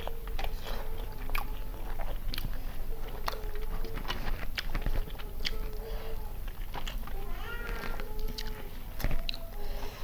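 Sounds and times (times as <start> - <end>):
chewing and biting food: 0.0 - 10.0.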